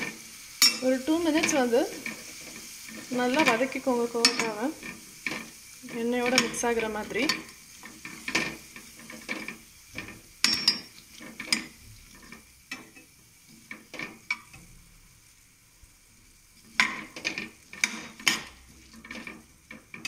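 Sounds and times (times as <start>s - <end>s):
metal spatula scraping a pan: 0.0s - 14.6s, 16.6s - 20.0s
faint sizzle: 0.0s - 20.0s.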